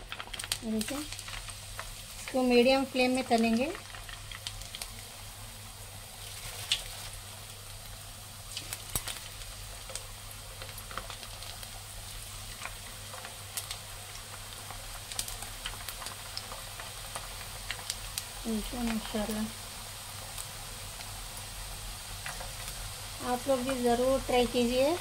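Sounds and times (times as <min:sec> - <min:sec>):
food deep-frying in oil: 0:00.0 - 0:25.0.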